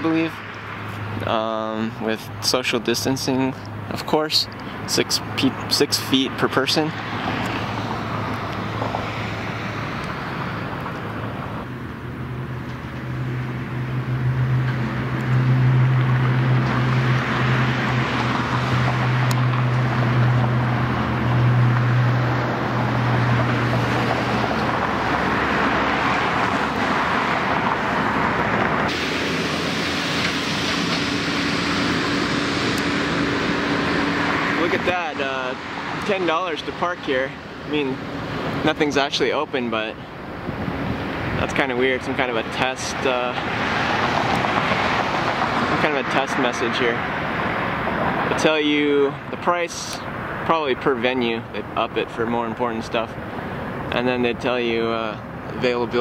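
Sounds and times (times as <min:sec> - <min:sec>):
car engine hum: 0:00.0 - 0:56.0
road and tyre noise: 0:00.0 - 0:56.0.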